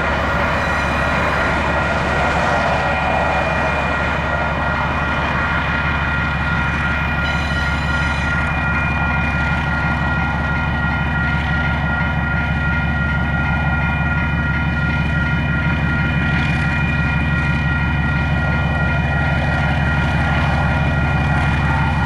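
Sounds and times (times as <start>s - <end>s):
high-pitched whine: 0.0s - 22.0s
locomotive engine drone: 0.0s - 22.0s.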